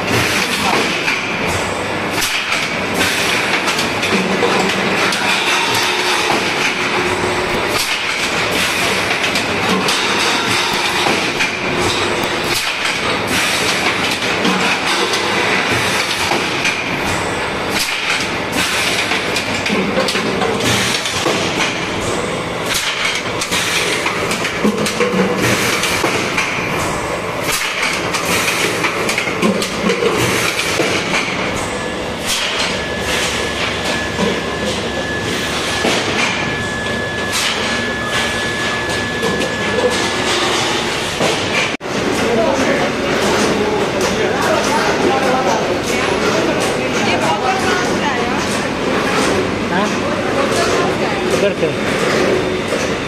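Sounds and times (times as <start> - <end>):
machinery clatter with sharp clacks: 0.0 - 53.0.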